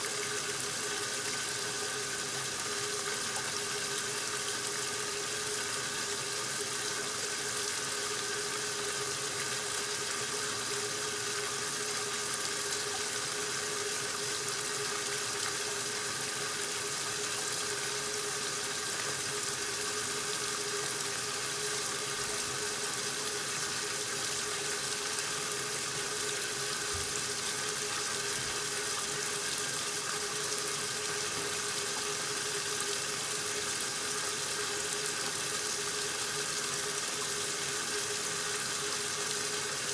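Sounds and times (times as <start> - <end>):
washing machine hum: 0.0 - 39.9
water rushing into washing machine: 0.0 - 39.9.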